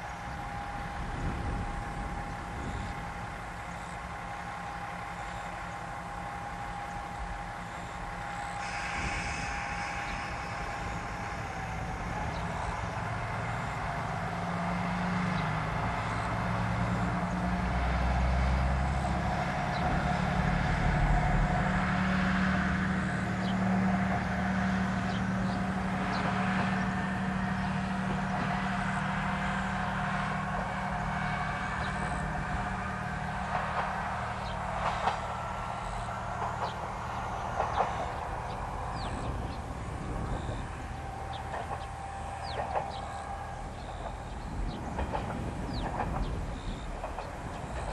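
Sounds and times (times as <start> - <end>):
diesel railcar pulling away: 0.0 - 47.9.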